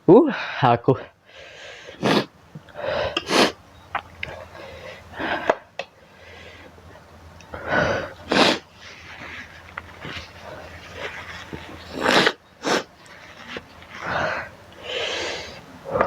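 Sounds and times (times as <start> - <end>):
sharp breaths and sniffs: 1.2 - 3.6, 4.2 - 6.8, 7.4 - 16.0.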